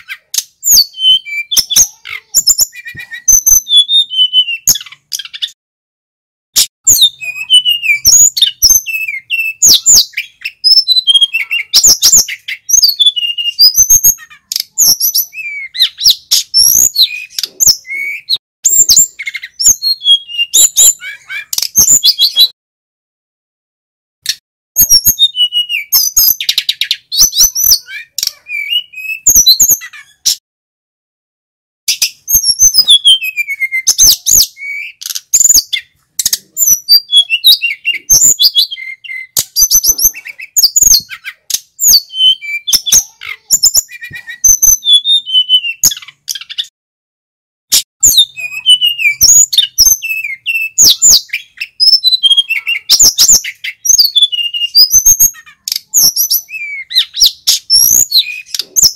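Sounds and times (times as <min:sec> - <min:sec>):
bird singing whistled trills: 0:00.0 - 0:05.6, 0:06.8 - 0:22.6, 0:24.8 - 0:30.3, 0:31.9 - 0:46.7, 0:48.0 - 0:58.9.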